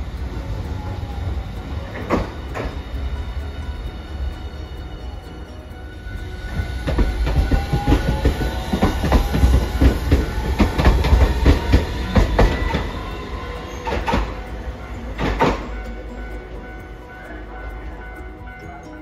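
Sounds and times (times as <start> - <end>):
tram wheels clacking on track: 0.0 - 19.0.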